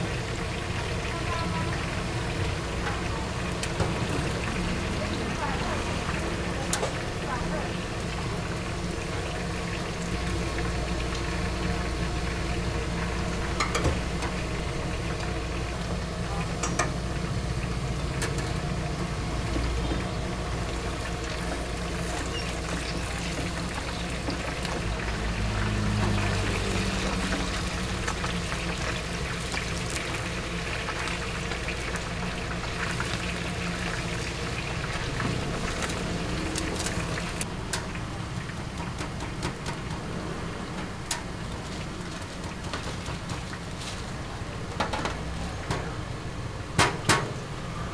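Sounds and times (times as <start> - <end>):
oil bubbling and sizzling in a wok: 0.0 - 47.9.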